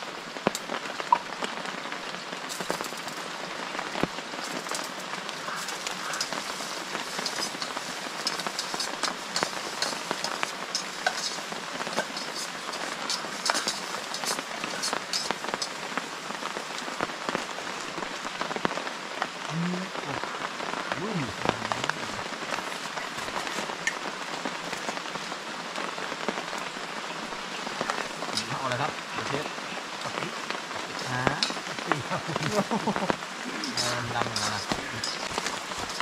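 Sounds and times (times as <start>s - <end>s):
rain hissing: 0.0s - 36.0s
raindrops tapping on a surface: 0.0s - 36.0s.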